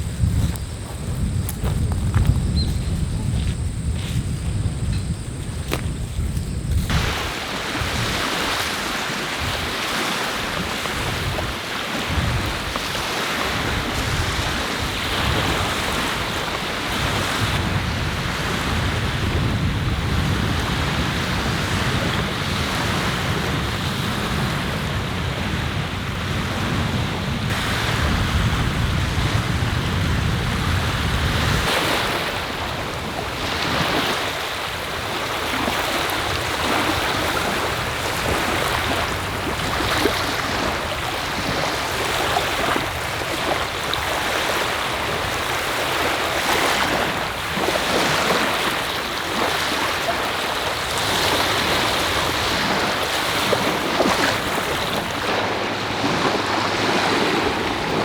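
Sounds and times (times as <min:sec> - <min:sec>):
sea waves breaking: 0:00.0 - 0:58.0
wind rumbling on microphone: 0:00.0 - 0:58.0.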